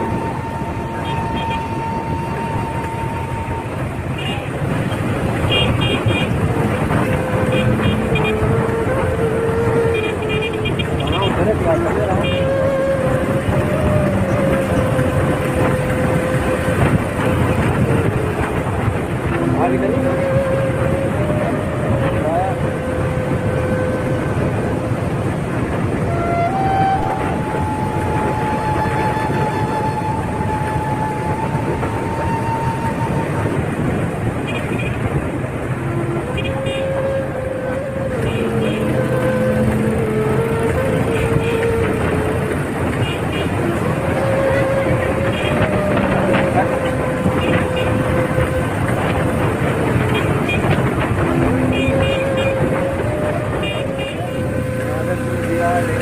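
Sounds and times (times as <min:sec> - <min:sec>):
steady whining tone: 0:00.0 - 0:34.5, 0:35.1 - 0:56.0
vehicle rumbling travel noise: 0:00.0 - 0:56.0.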